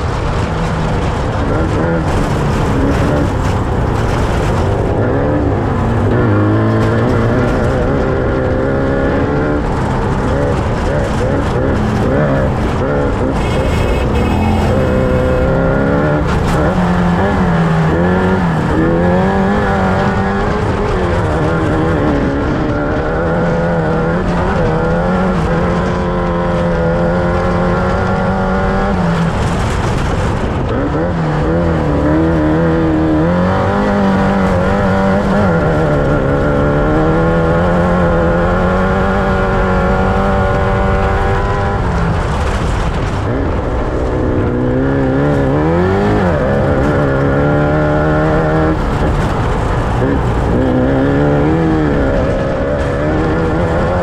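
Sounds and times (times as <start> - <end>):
rattling rushing noise: 0.0 - 23.5, 29.0 - 54.0
race vehicle engine revving: 0.0 - 54.0.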